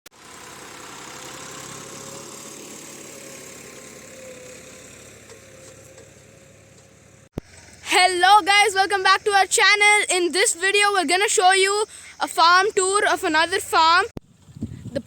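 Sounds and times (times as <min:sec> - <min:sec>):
engine running: 0:00.1 - 0:15.0.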